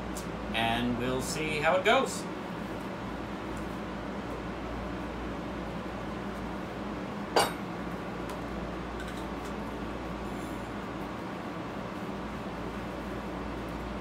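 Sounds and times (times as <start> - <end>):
workshop hum: 0.0 - 14.0.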